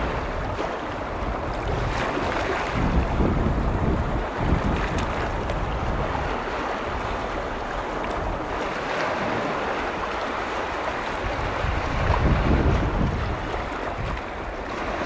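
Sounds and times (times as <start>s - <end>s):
lake waves washing against shore: 0.0s - 15.0s
water splashes: 0.0s - 15.0s.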